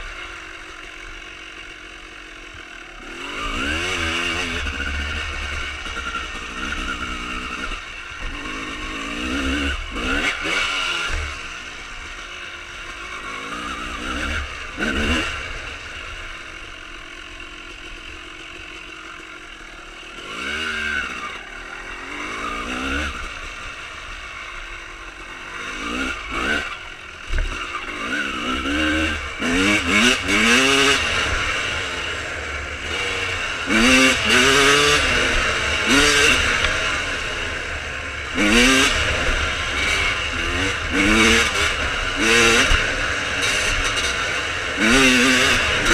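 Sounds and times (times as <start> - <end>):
two-stroke dirt bike engine revving: 0.0 - 45.9.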